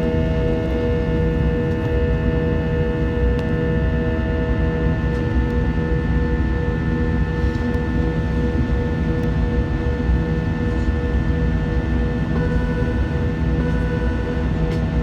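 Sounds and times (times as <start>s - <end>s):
jet cabin engine drone: 0.0s - 15.0s.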